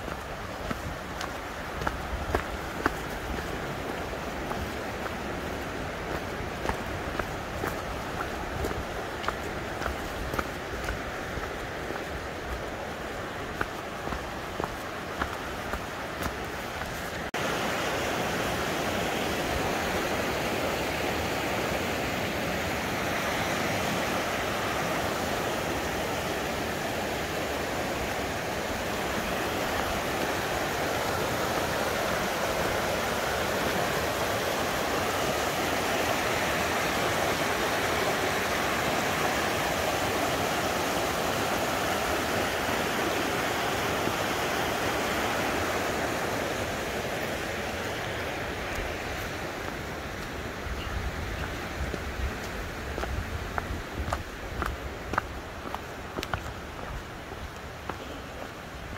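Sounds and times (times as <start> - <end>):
creek rushing over rocks: 0.0 - 58.9.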